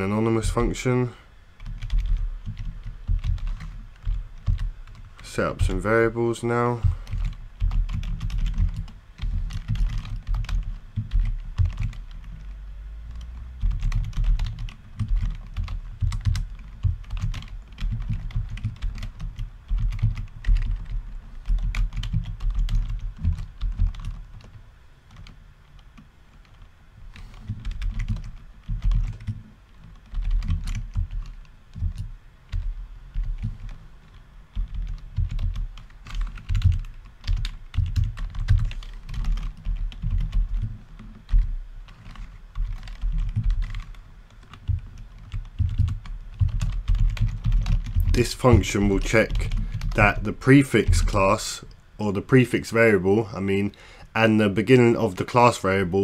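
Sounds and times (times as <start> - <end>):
typing on computer keyboard: 1.6 - 5.9, 6.7 - 12.5, 13.1 - 51.2.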